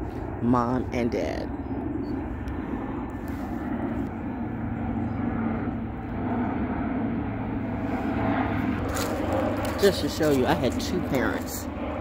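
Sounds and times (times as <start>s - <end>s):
airplane engines droning overhead: 0.0s - 12.0s.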